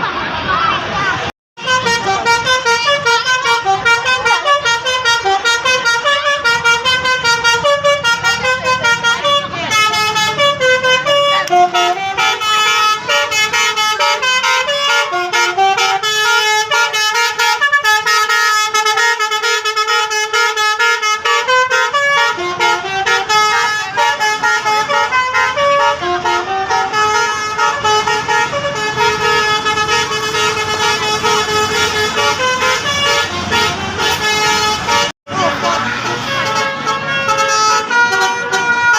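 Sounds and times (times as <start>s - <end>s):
musical bus air horns: 1.6s - 38.9s.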